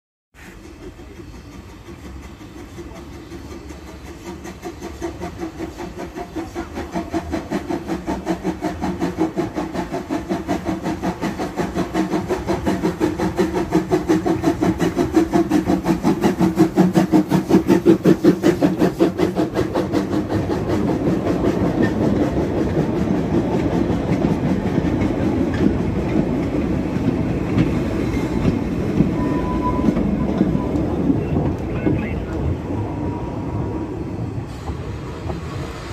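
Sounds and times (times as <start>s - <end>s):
steam locomotive exhaust chuffs: 0.3s - 35.9s
wagons rumbling over rail joints: 0.4s - 35.9s.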